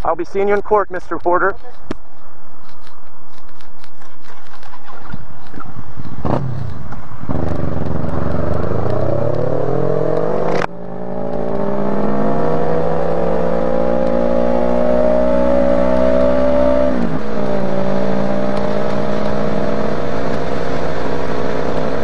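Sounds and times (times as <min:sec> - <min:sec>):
motorcycle engine accelerating: 0:03.9 - 0:22.0.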